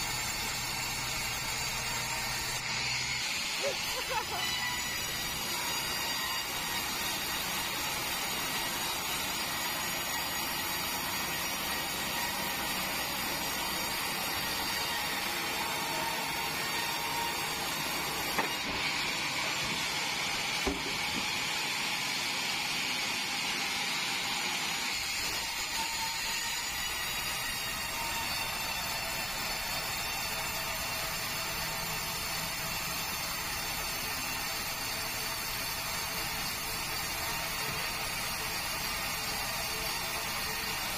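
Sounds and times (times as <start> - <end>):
band saw running: 0.0 - 40.9.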